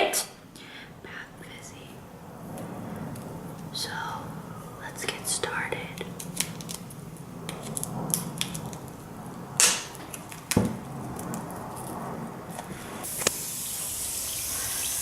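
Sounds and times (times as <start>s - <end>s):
steady hiss: 0.0s - 10.0s, 12.3s - 15.0s.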